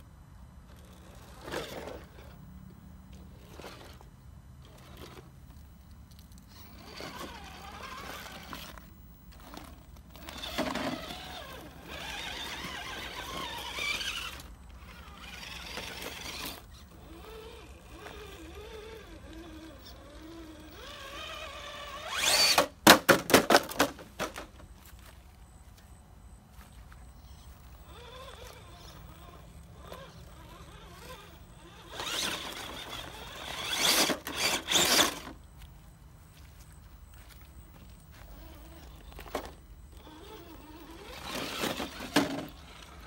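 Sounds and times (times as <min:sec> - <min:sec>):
electric motor whining: 0:00.7 - 0:22.8, 0:26.8 - 0:35.7, 0:36.4 - 0:43.0.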